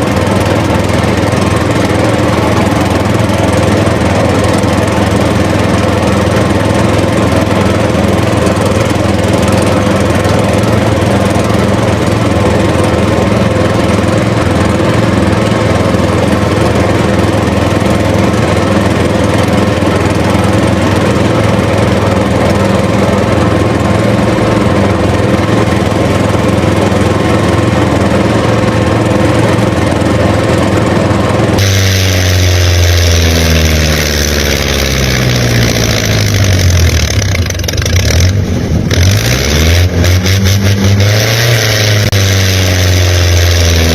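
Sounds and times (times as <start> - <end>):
engine with falling pitch: 0.0 - 43.9
small engine running: 0.0 - 43.9.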